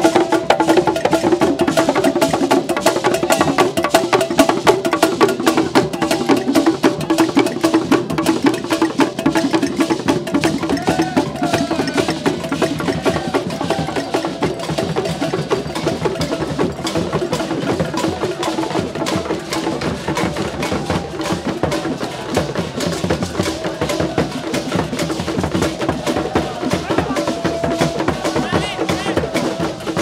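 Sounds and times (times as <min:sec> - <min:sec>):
drum ensemble playing fast rhythm: 0:00.0 - 0:30.0.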